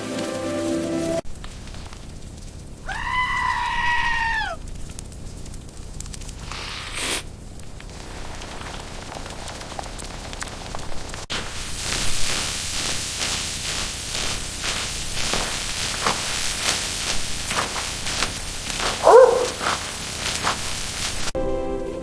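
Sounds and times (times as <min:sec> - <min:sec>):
short crackles: 0:00.0 - 0:21.4
steady hiss: 0:00.0 - 0:22.0.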